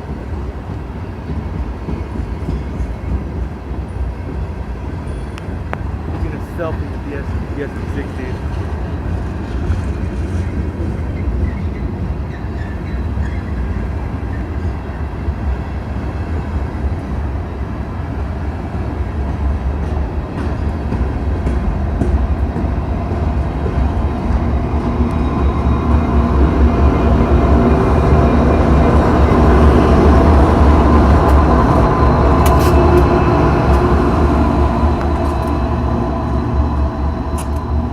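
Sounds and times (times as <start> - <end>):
train rumbling on rails: 0.0 - 37.9.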